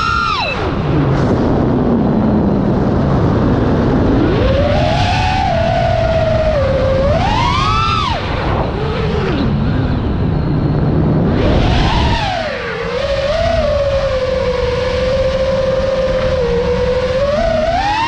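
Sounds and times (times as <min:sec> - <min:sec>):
drone motors whining: 0:00.0 - 0:18.0
low rush of noise: 0:00.0 - 0:18.0.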